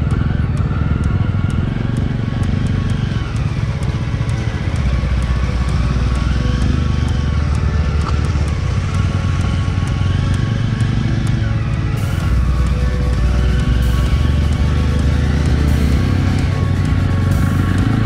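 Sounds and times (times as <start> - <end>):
motorcycle engine running: 0.0 - 18.0
music with steady beat: 0.0 - 18.0.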